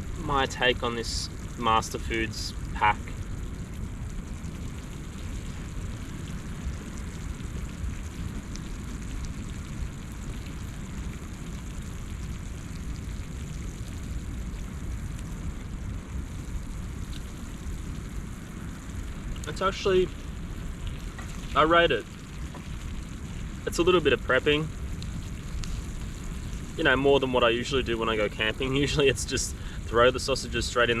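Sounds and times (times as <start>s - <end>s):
campfire crackling: 0.0s - 31.0s
low rumble: 0.0s - 31.0s.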